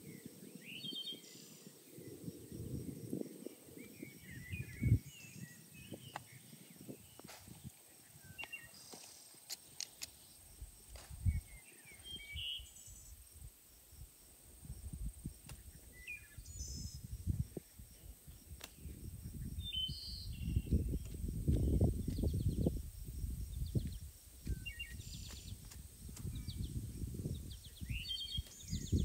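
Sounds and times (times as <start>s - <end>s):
small birds chirping: 0.0s - 13.3s, 15.4s - 29.0s.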